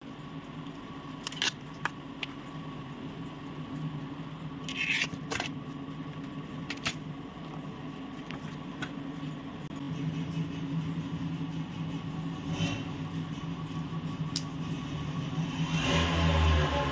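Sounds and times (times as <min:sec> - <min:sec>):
low background hum: 0:00.0 - 0:16.1.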